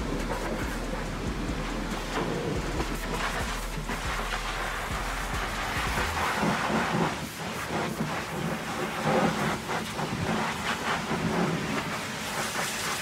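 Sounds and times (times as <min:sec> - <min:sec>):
pressure washer spraying: 0:00.0 - 0:13.0.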